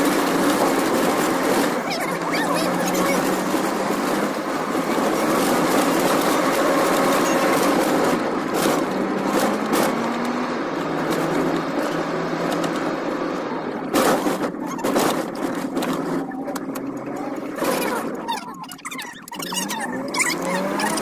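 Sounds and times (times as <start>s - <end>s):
car engine running: 0.0s - 21.0s
road noise inside car: 0.0s - 21.0s.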